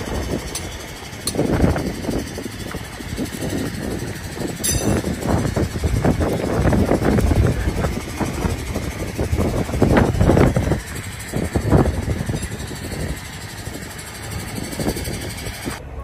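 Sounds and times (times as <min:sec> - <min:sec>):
engine knocks and clanks: 0:00.0 - 0:16.0
large engine running: 0:00.0 - 0:16.0.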